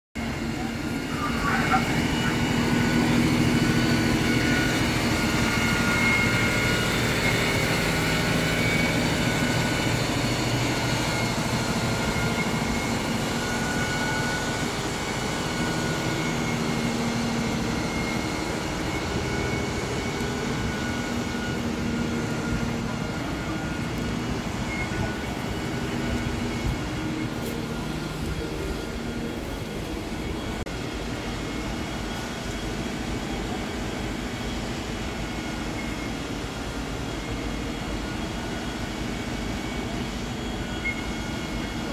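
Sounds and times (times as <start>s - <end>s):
fire engine pump drone: 0.2s - 41.9s
steady whining tones: 0.2s - 41.9s.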